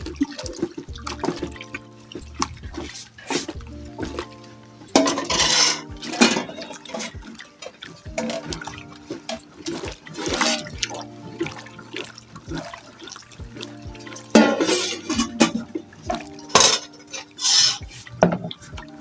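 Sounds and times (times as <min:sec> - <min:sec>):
liquid sloshing in a bowl: 0:00.0 - 0:19.0.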